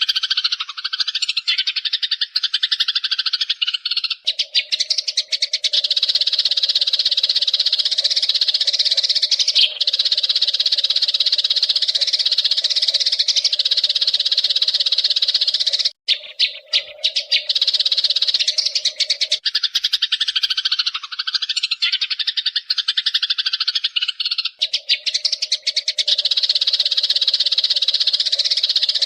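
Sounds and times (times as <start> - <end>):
sparrows chirping: 0.0 - 29.0.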